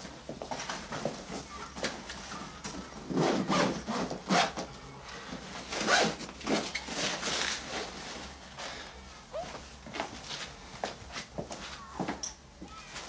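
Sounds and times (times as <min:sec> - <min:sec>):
books and papers rustling: 0:00.0 - 0:13.0.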